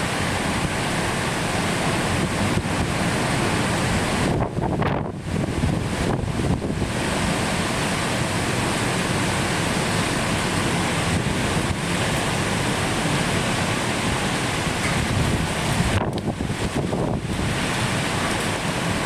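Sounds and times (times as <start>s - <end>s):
heavy rain: 0.0s - 19.0s
river surging: 0.0s - 19.0s
wind gusting on microphone: 0.0s - 19.0s.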